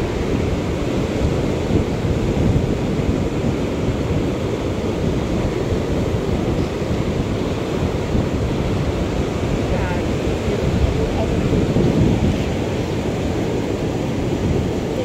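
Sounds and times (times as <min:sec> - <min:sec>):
sea surf washing over rocks: 0:00.0 - 0:15.0
wind buffeting microphone: 0:00.0 - 0:15.0.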